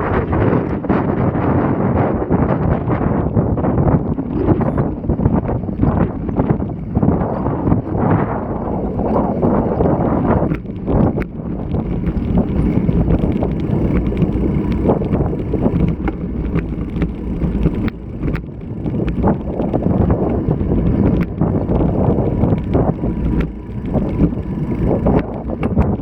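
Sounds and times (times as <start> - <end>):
rolling tyres rumble: 0.0 - 26.0
wind buffeting microphone: 0.0 - 26.0
bicycle clicks and rattles: 2.4 - 26.0.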